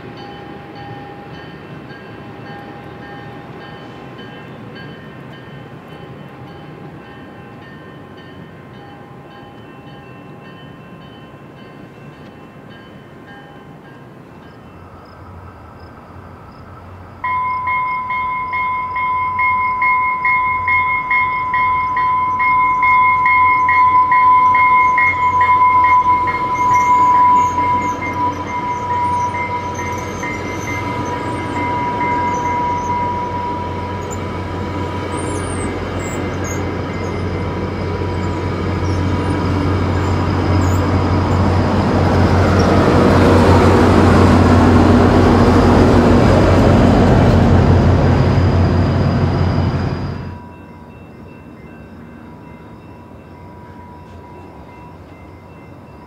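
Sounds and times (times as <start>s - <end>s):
train bell ringing: 0.0s - 15.4s, 17.2s - 56.0s
train cars rumbling on rails: 0.0s - 56.0s.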